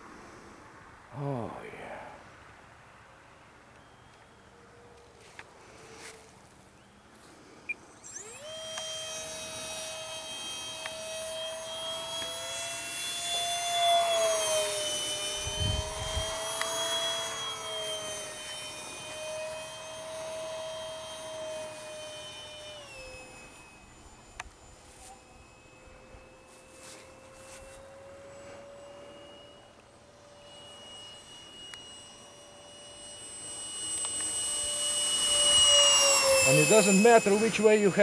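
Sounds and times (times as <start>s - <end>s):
electric ducted fan whine: 0.0s - 38.0s.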